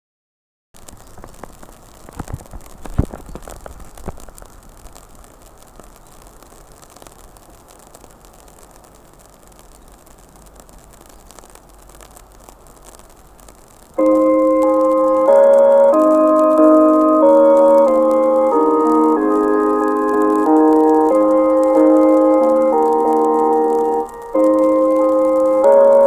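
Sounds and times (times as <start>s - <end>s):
sharp knocks and crackles: 0.8s - 26.0s
steady rain falling: 0.8s - 26.0s.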